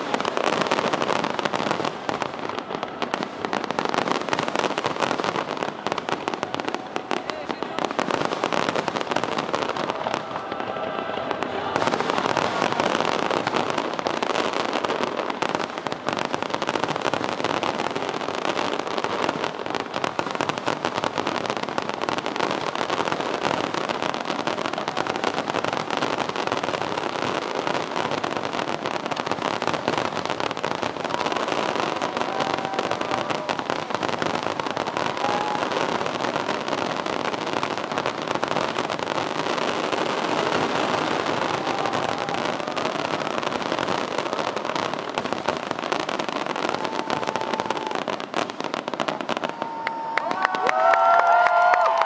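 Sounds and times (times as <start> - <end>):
fireworks bursting and crackling: 0.0 - 52.0.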